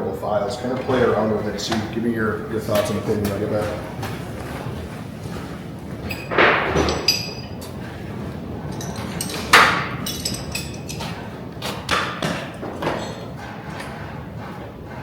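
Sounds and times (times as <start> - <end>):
metal knocks and clanks: 0.6 - 14.9.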